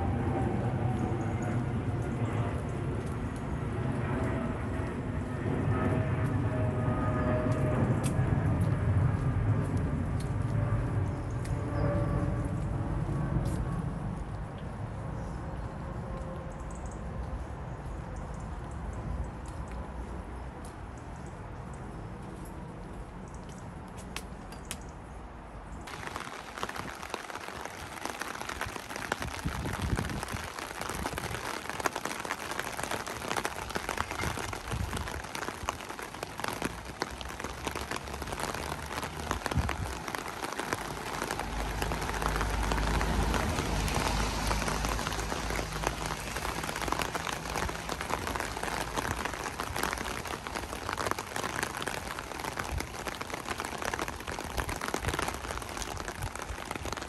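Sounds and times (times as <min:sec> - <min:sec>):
rain pattering on surfaces: 0:00.1 - 0:06.4, 0:07.5 - 0:21.4, 0:25.8 - 0:57.0.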